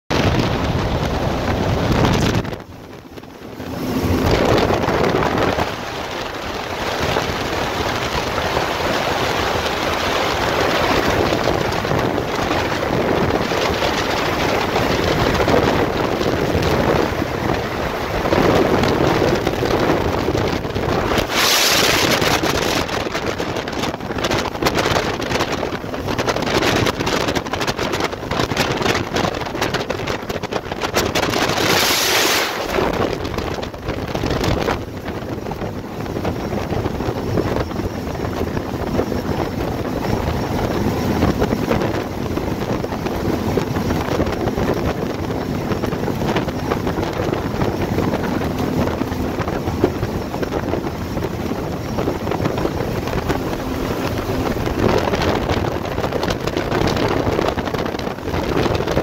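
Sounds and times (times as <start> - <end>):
outboard engines running: 0.1 - 59.0
water rushing past boat hull: 0.1 - 59.0
wind buffeting microphone: 0.1 - 59.0.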